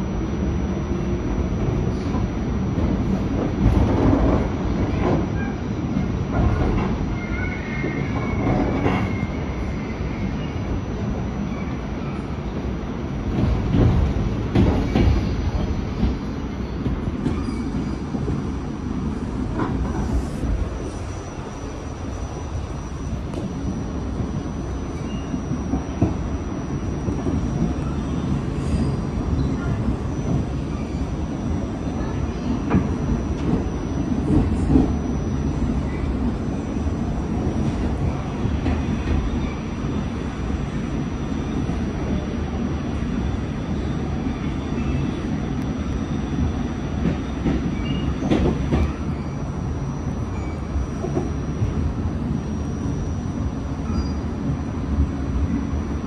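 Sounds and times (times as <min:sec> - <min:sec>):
subway car rumbling on track: 0:00.0 - 0:56.0.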